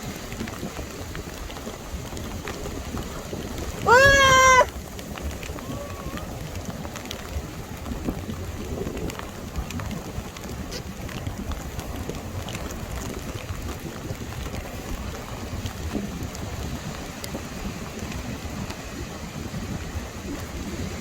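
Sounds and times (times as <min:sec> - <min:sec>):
heavy rain hissing: 0:00.0 - 0:21.0
raindrops ticking: 0:00.0 - 0:21.0
wind buffeting microphone: 0:00.0 - 0:21.0.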